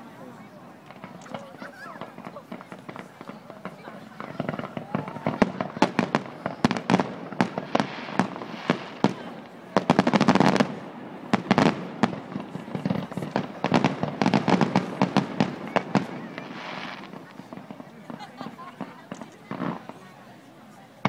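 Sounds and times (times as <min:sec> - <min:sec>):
fireworks bangs and crackles: 0:00.1 - 0:21.0.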